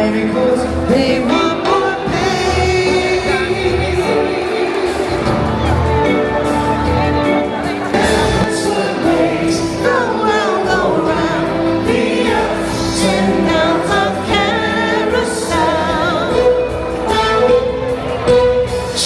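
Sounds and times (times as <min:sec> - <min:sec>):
soul song with vibrato singing: 0:00.0 - 0:19.0.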